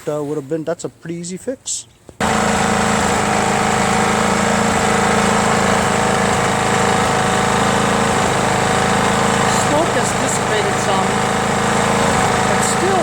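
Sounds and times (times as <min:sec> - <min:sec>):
push mower engine running: 0:02.2 - 0:13.0.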